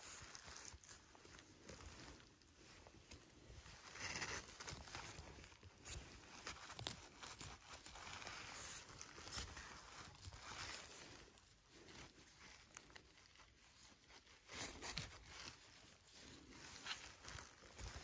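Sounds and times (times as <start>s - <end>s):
rustling and scraping in moss: 0.0s - 18.0s.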